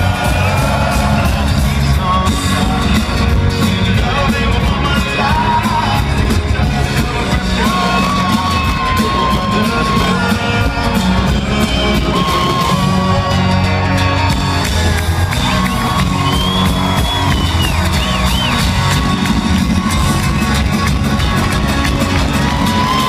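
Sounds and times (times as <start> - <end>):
crowd shouting and whooping: 0.0 - 23.0
live band music with singing: 0.0 - 23.0.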